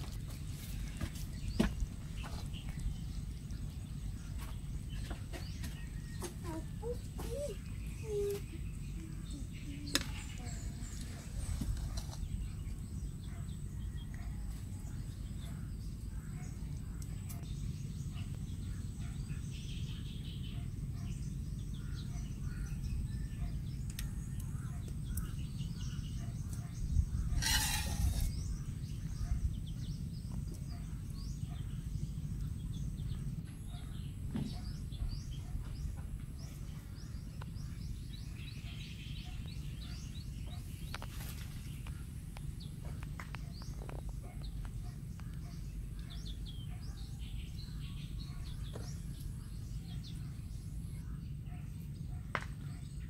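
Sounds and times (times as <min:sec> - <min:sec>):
low background rumble: 0:00.0 - 0:53.0
small birds chirping: 0:00.0 - 0:53.0.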